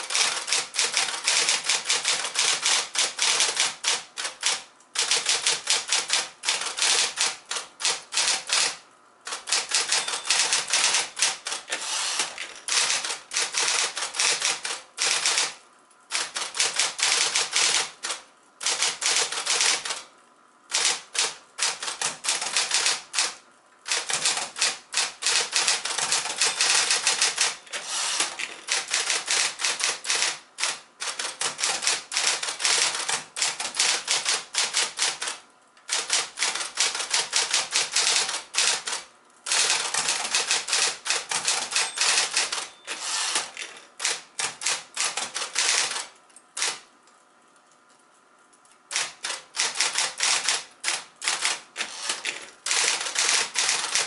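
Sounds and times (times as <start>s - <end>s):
electric typewriter typing: 0.0s - 20.1s, 20.7s - 46.9s, 48.9s - 54.0s.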